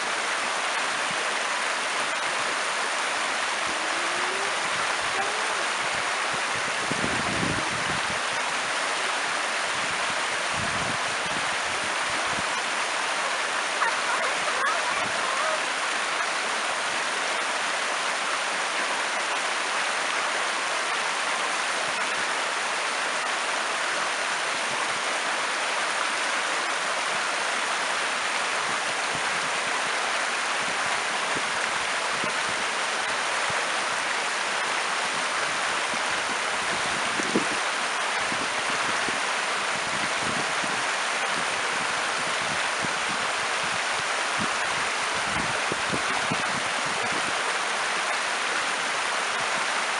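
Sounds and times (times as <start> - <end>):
river flowing: 0.0 - 49.9.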